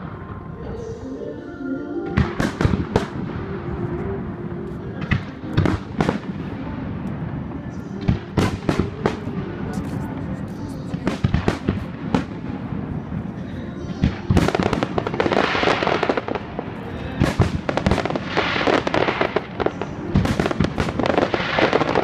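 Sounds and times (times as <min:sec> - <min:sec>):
fireworks crackling: 0:02.0 - 0:22.0.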